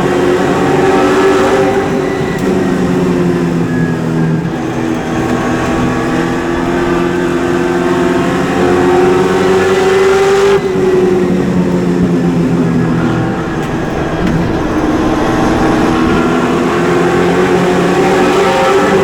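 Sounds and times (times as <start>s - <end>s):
race car engine: 0.0s - 19.0s.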